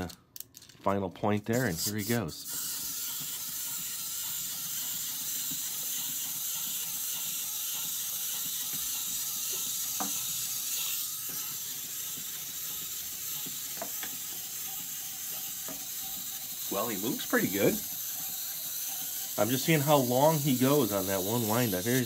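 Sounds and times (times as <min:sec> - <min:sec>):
clockwork motor whirring: 0:01.5 - 0:22.0.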